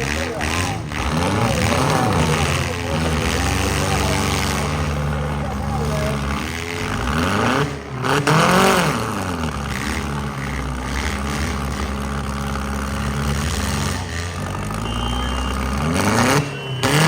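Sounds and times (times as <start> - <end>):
car engines running: 0.0 - 17.0
engine revving hard: 0.0 - 17.0.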